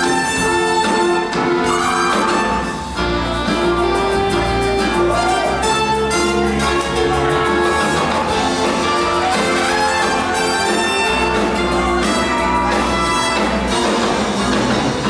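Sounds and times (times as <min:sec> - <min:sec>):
theatre pit band playing dance music: 0:00.0 - 0:15.0.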